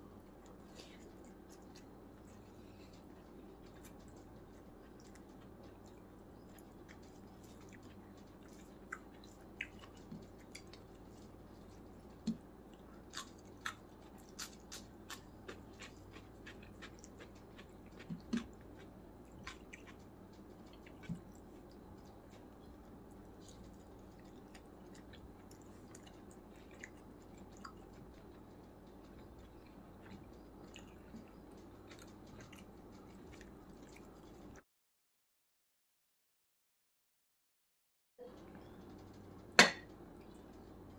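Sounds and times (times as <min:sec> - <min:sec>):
faint steady hum: 0:00.0 - 0:34.6, 0:38.2 - 0:40.9
chewing with wet clicks: 0:00.2 - 0:34.6, 0:38.4 - 0:40.9.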